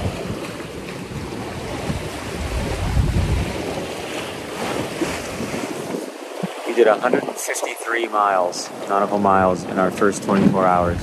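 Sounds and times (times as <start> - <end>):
wind buffeting microphone: 0.0 - 7.6, 9.3 - 11.0
ocean waves rushing: 0.0 - 11.0.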